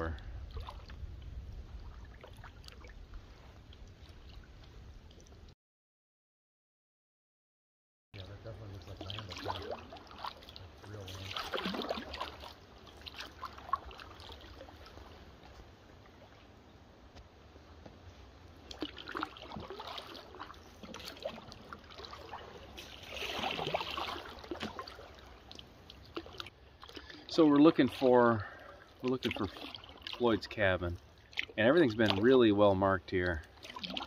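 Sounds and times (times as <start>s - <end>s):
paddle strokes in water: 0.4s - 5.5s, 8.2s - 34.0s.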